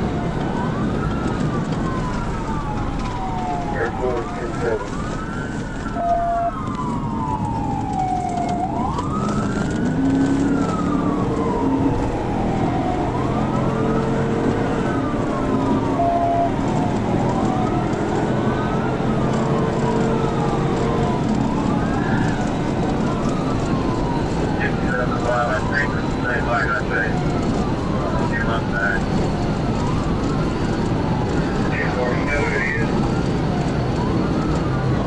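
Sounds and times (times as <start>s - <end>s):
engine and road noise: 0.0s - 35.0s
police siren wailing: 0.0s - 35.0s.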